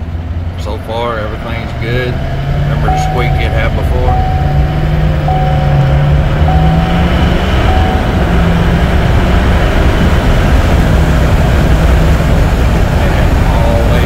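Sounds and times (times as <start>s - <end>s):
diesel truck accelerating: 0.0s - 14.0s
road noise: 0.0s - 14.0s.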